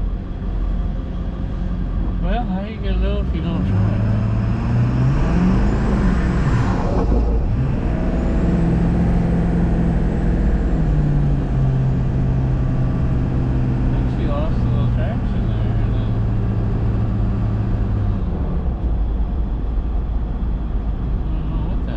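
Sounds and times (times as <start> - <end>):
diesel truck engine running: 0.0 - 21.9.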